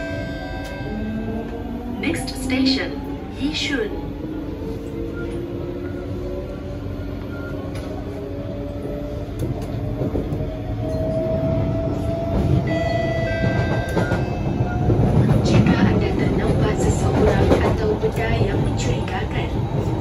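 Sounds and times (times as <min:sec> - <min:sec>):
metro train rumble: 0:00.0 - 0:20.0.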